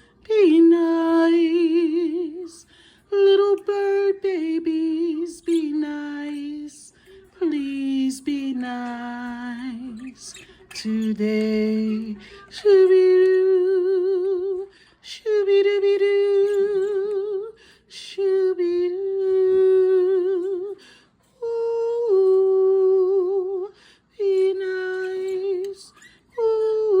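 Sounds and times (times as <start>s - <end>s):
woman singing wordless notes: 0.0s - 27.0s.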